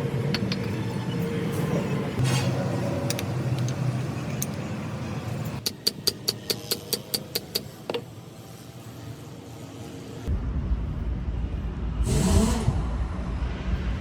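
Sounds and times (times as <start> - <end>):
low workshop background: 0.0 - 13.9.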